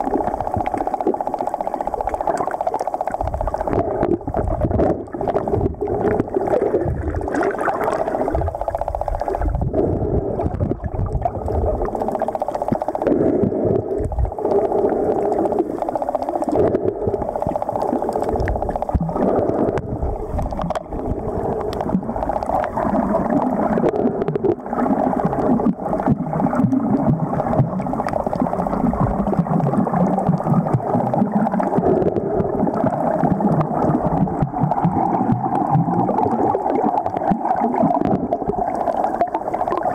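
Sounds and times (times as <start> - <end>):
underwater water rushing: 0.0 - 39.9.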